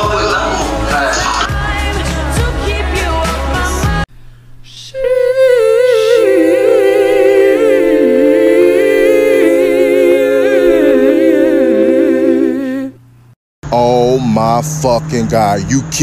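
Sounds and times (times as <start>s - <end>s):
wordless hummed vocal harmony: 0.0s - 13.1s.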